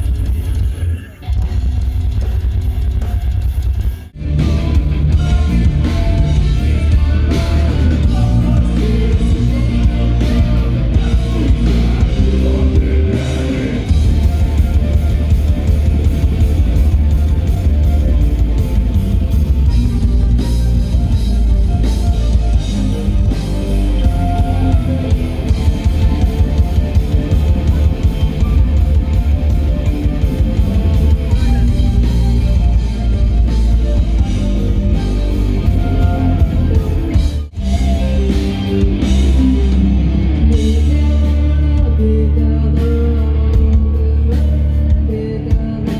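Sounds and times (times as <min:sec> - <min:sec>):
distorted electric guitars: 0:00.0 - 0:45.9
driving drum kit: 0:00.0 - 0:45.9.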